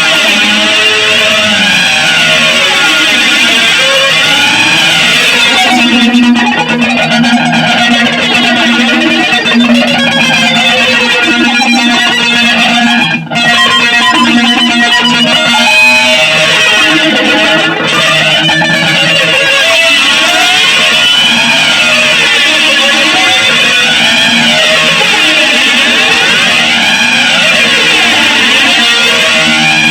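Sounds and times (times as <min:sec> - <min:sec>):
electric guitar through effects: 0:00.0 - 0:29.9.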